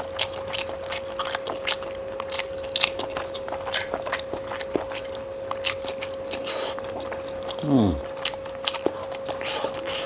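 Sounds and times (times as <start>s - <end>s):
close chewing with crunches: 0.0s - 10.0s.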